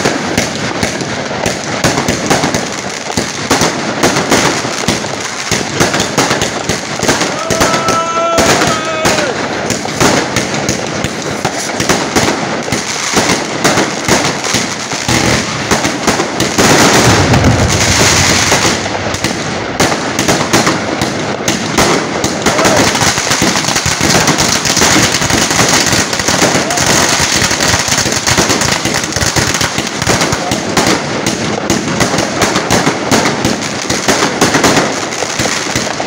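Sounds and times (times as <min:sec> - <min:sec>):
fireworks cracking and popping: 0:00.0 - 0:36.0.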